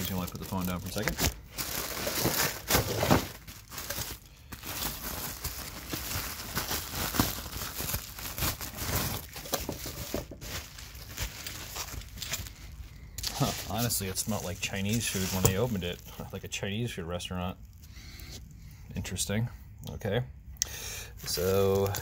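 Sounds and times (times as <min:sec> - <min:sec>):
bubble wrap crinkling: 0:00.0 - 0:18.4, 0:21.2 - 0:22.0.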